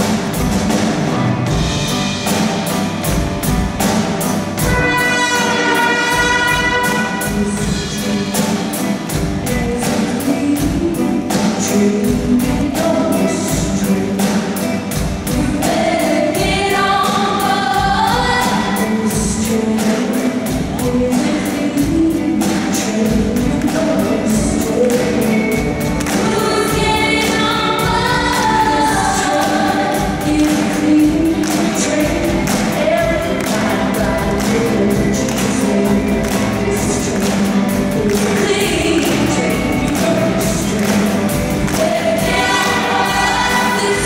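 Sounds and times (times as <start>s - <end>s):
gospel band and choir singing: 0.0s - 44.0s.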